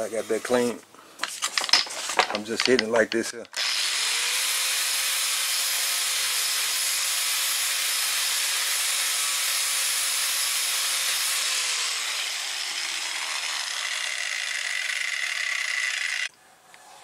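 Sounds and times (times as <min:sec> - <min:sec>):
angle grinder grinding metal: 0:00.0 - 0:16.3.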